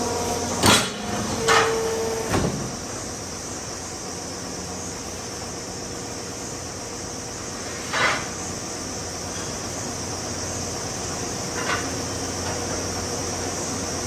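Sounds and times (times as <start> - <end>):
factory machinery hum and hiss: 0.0 - 14.0.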